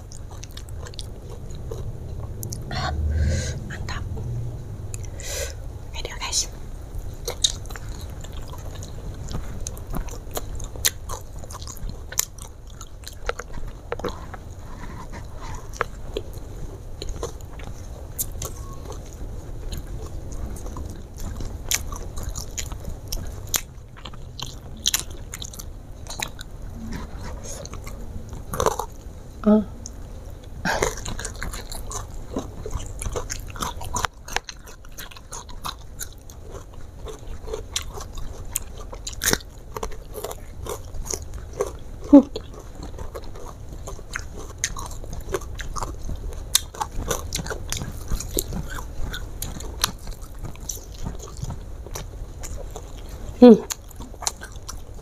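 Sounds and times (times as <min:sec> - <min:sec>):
chewing crispy food crunches: 0:00.0 - 0:02.7, 0:07.0 - 0:29.1, 0:29.8 - 0:55.0.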